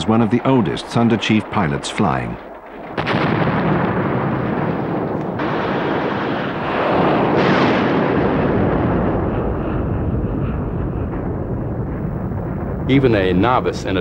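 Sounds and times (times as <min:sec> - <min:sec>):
anti-aircraft fire: 0:00.0 - 0:14.0
rumbling roar of explosions: 0:00.0 - 0:14.0.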